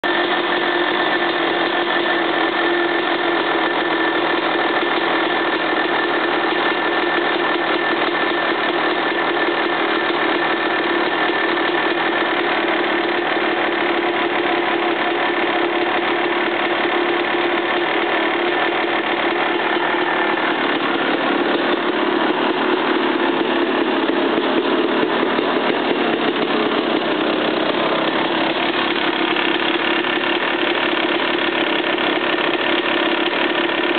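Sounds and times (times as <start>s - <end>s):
engine knocking: 0.0s - 33.9s
two-stroke engine idling: 0.0s - 33.9s.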